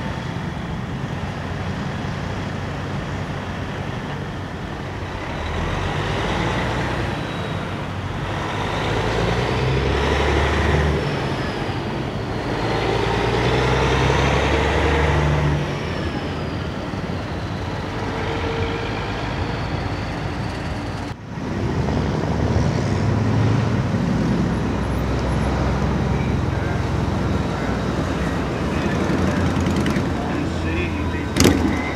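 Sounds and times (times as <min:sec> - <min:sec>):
another truck engine: 0:00.0 - 0:31.9
diesel truck driving past: 0:00.0 - 0:31.9
tyre and road noise: 0:00.0 - 0:31.9.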